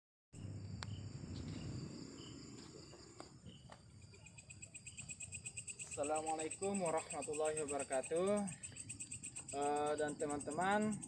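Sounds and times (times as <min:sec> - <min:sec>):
fast pulsing insect trill: 0:00.4 - 0:11.0
night insects whining: 0:00.4 - 0:11.0.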